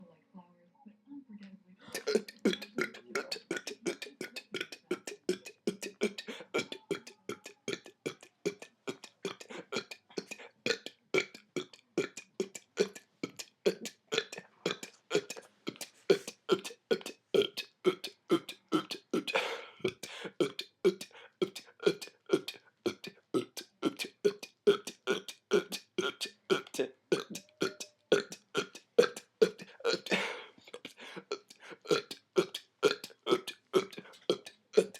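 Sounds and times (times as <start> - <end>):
man burping: 1.9 - 15.4, 16.1 - 34.9.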